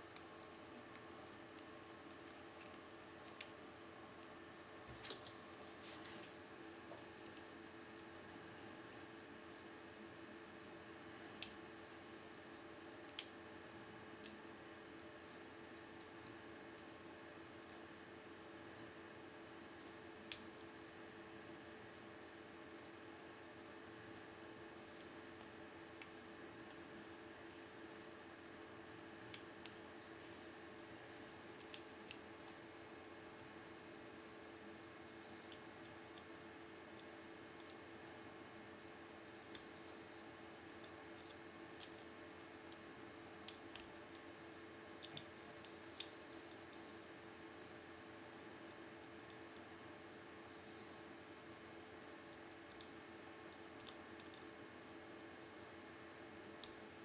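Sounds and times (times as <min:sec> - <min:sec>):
steady faint hum: 0:00.0 - 0:57.0.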